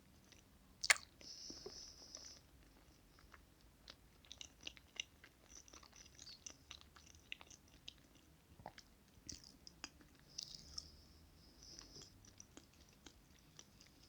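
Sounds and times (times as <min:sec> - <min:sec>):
chewing soft cake: 0:00.0 - 0:14.0.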